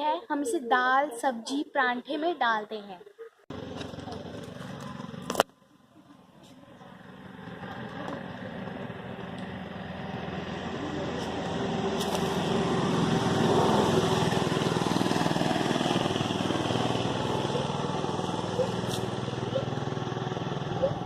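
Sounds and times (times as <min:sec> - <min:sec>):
small engine running: 0:03.5 - 0:21.0.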